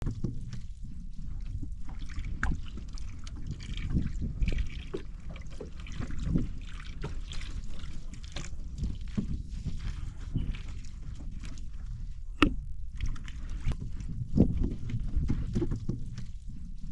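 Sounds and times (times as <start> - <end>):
water splashing against boat: 0.0 - 16.9.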